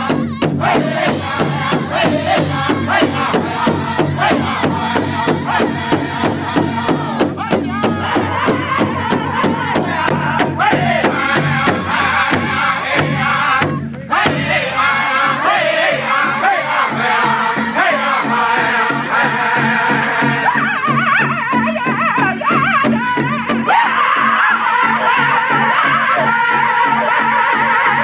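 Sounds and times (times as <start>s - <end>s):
large drum beating: 0.0s - 27.6s
group singing in chorus: 0.0s - 28.0s.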